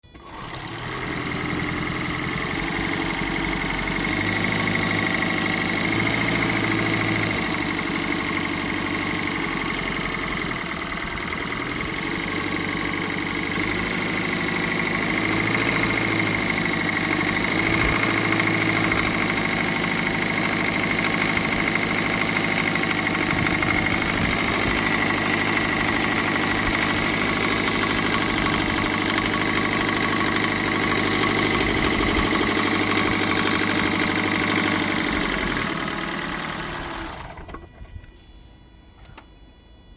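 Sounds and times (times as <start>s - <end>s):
car engine running: 0.0s - 37.7s
engine knocking and rattling: 0.0s - 37.9s.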